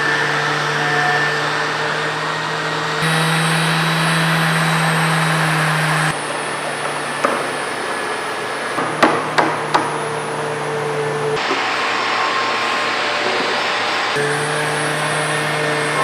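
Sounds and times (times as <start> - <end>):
machine hum with hiss: 0.0 - 16.0.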